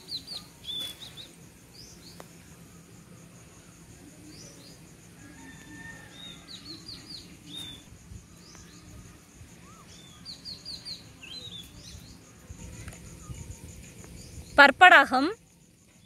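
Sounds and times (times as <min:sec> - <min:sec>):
birds chirping: 0:00.0 - 0:15.4
insect trill: 0:00.0 - 0:16.0.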